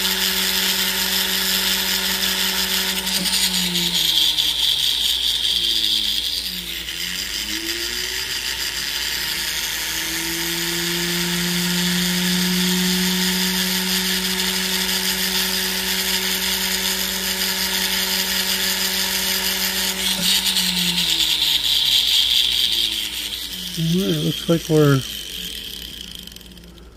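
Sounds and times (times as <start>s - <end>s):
rotary tool motor whine: 0.0s - 26.9s.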